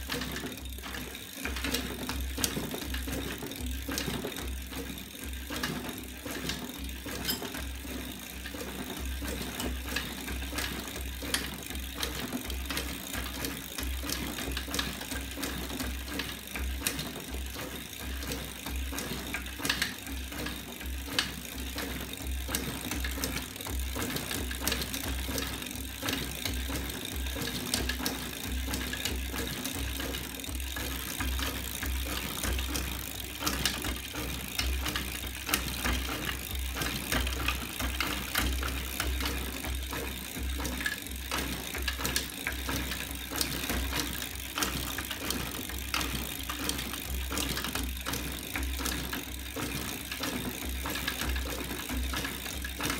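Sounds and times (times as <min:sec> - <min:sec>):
machine clicking and rattling: 0:00.0 - 0:52.9.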